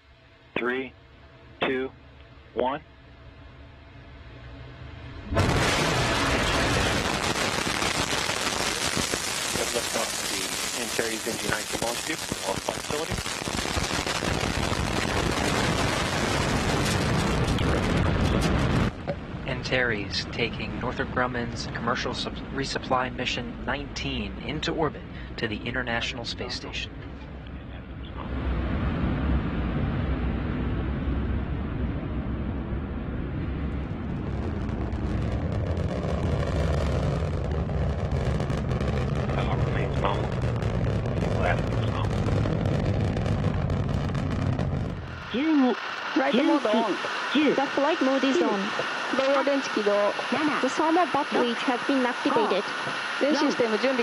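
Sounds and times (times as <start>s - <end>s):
rocket engines crackling rumble: 0.6s - 54.0s.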